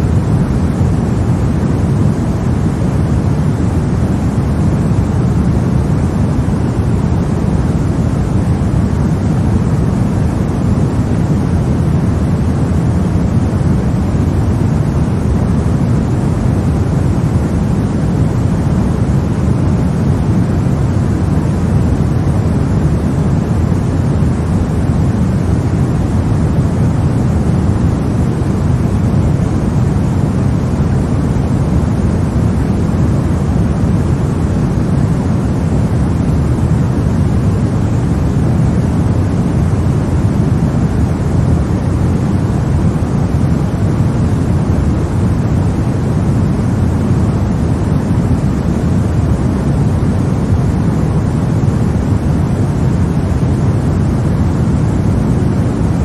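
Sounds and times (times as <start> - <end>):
deep white noise hiss: 0.0 - 56.0.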